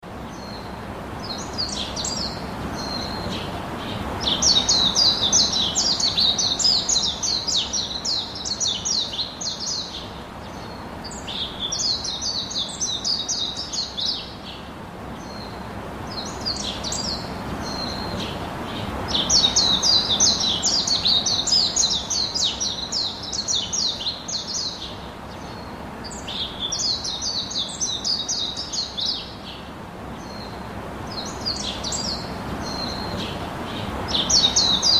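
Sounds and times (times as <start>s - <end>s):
songbirds twittering: 0.0s - 34.9s
low background hiss: 0.1s - 34.9s.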